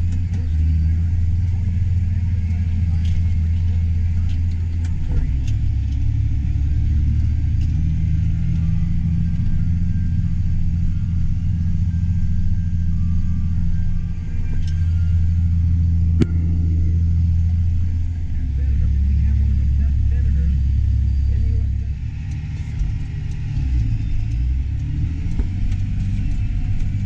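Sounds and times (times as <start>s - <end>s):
combine harvester engine droning: 0.0s - 27.0s.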